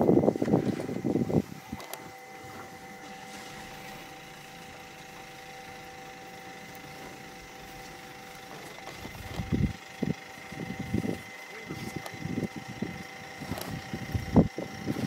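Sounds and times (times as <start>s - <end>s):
held tones: 0.0s - 15.0s
mechanical hum: 0.0s - 15.0s.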